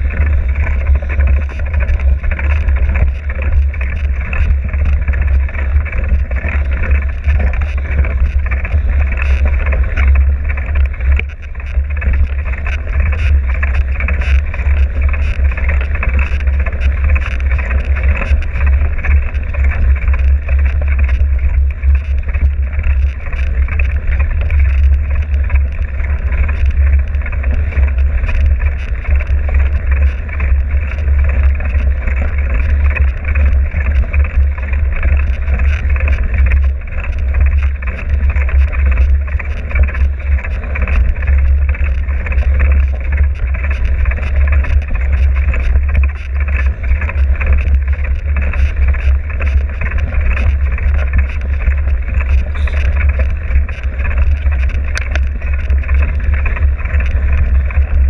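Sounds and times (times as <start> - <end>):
vehicle running rumble: 0.0 - 58.0.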